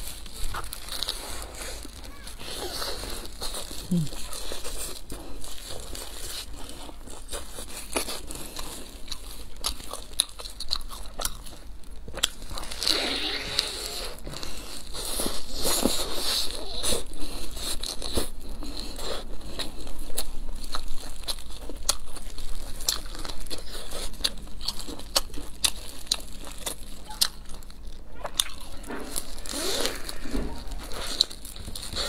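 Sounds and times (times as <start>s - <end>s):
chewing crispy flatbread: 0.0s - 32.0s.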